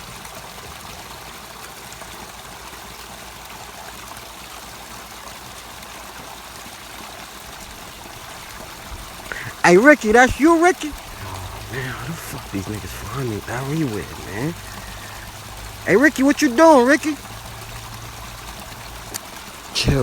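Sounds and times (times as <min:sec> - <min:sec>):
rushing water noise: 0:00.0 - 0:20.0.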